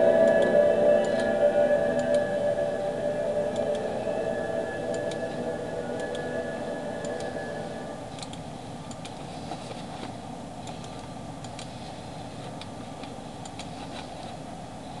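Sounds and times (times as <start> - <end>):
room tone hum and hiss: 0.0 - 15.0.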